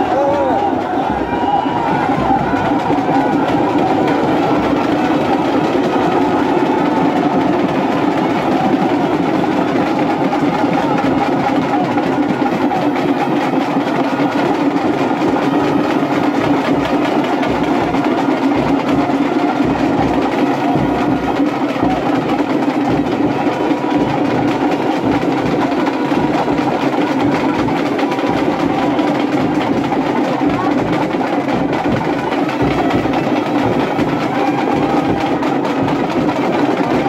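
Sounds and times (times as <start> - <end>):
crowd din: 0.0 - 37.0
fast heavy drumming: 0.0 - 37.0.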